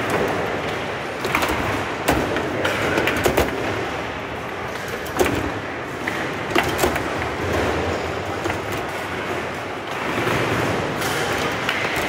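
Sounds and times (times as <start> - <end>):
background noise: 0.0 - 12.0
foosball figures clacking ball: 0.0 - 12.0.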